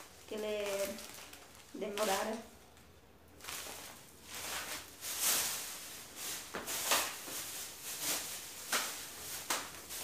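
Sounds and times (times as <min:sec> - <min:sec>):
plastic bags rustling: 0:00.0 - 0:10.0.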